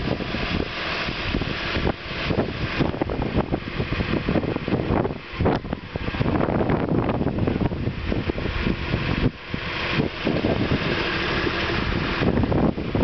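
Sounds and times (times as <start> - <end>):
diesel engine running: 0.0 - 13.0
wind buffeting microphone: 0.0 - 13.0.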